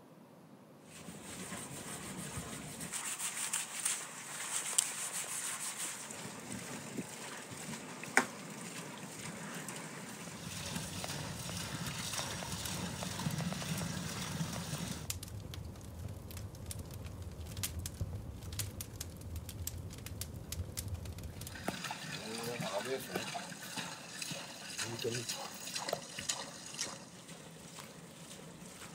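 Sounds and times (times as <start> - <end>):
outdoor noise: 0.0 - 28.9
campfire crackling and popping: 1.0 - 28.9.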